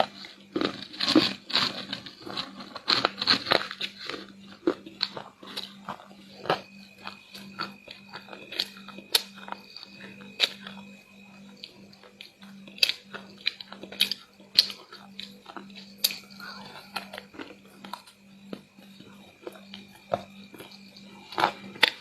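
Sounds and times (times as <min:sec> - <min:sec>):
chewing crunchy chocolate: 0:00.0 - 0:22.0.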